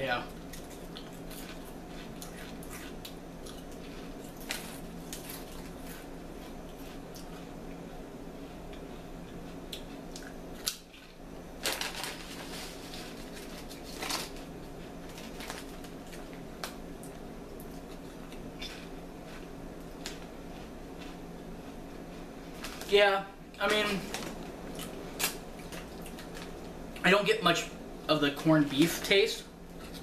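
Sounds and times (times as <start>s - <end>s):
low hum: 0.0s - 28.4s
chip crunching: 0.2s - 7.9s, 8.7s - 27.1s.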